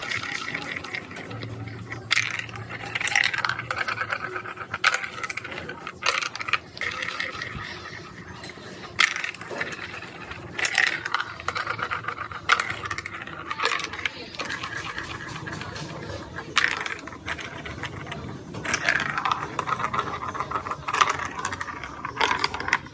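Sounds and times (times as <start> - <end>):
marbles rolling through plastic run: 0.0 - 22.9.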